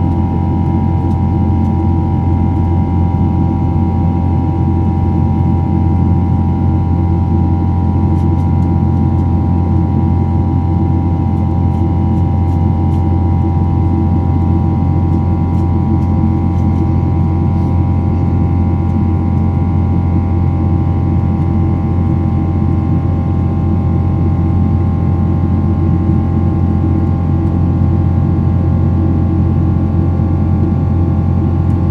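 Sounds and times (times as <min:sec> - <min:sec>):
jet airliner cabin drone: 0:00.0 - 0:31.9.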